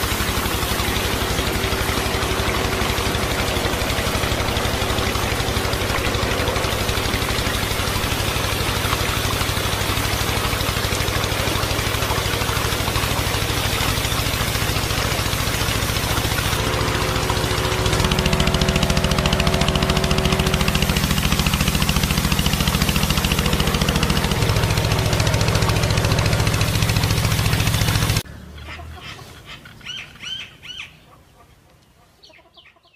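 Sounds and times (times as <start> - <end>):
small engine running: 0.0 - 28.3.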